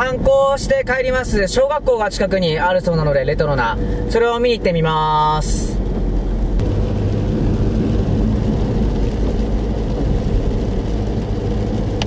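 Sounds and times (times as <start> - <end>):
car driving on wet road: 0.0 - 12.0.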